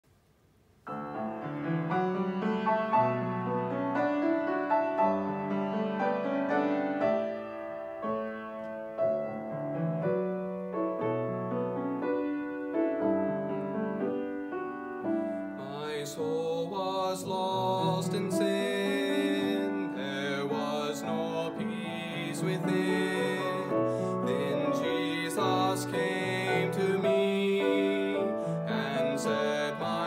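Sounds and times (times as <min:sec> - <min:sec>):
piano playing gospel introduction: 0:00.9 - 0:30.0.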